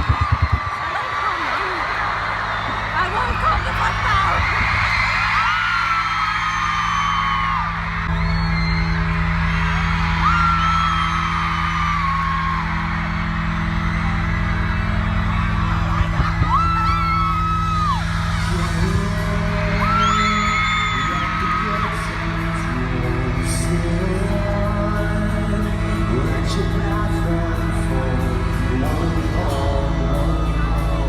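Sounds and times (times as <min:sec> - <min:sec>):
loud amplified concert music: 0:00.0 - 0:31.0.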